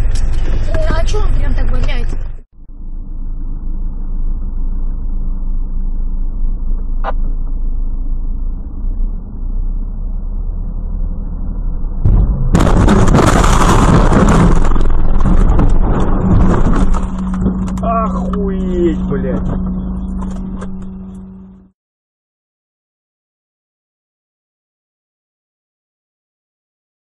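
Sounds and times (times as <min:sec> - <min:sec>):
car engine and road rumble: 0:00.0 - 0:21.7.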